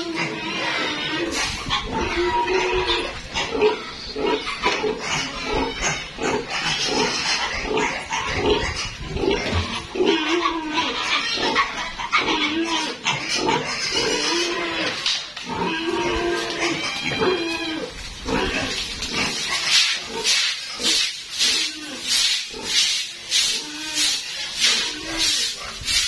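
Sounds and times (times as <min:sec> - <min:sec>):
pigs squealing and grunting: 0:00.0 - 0:26.0.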